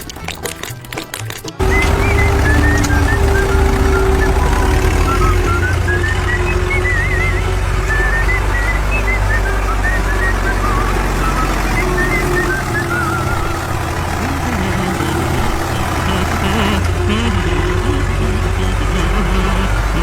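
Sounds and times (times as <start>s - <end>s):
wavering high whistle-like tones: 1.6s - 18.9s
wavering lower tone: 1.6s - 19.5s
construction machine engine running: 1.6s - 20.0s.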